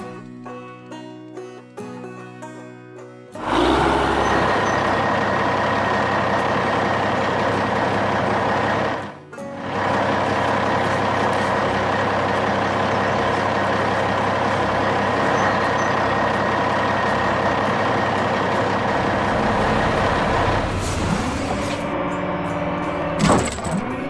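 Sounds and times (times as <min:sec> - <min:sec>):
truck engine running: 0:03.4 - 0:24.0.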